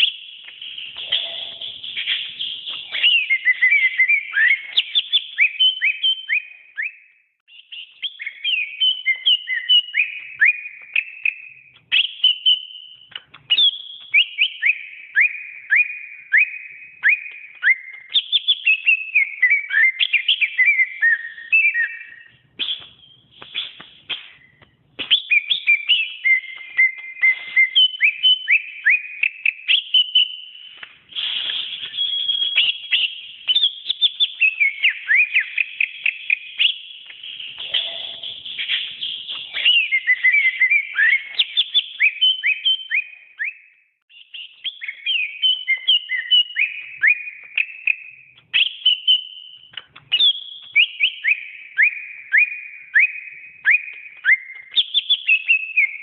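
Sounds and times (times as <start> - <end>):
bird singing whistled song: 0.0 - 56.0.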